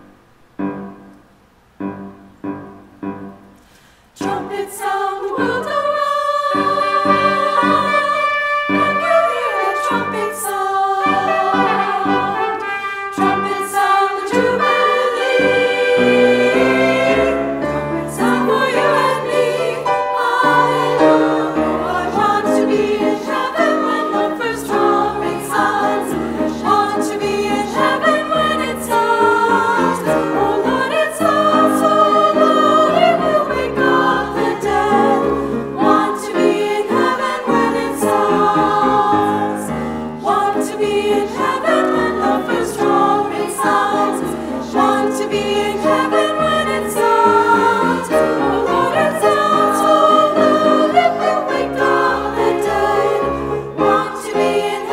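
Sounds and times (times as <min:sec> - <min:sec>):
women's chorus singing: 0:04.2 - 0:54.9.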